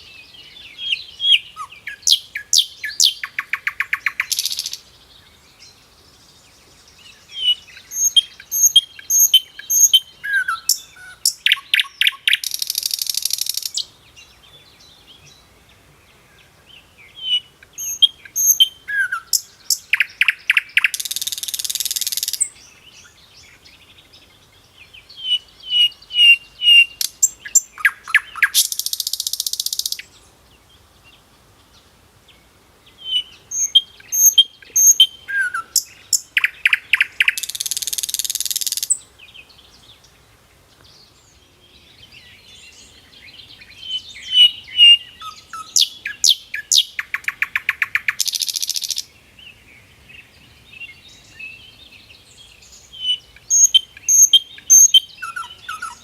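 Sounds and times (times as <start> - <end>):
soft bird chirping: 0.0 - 56.0
songbird singing phrases: 0.0 - 56.0.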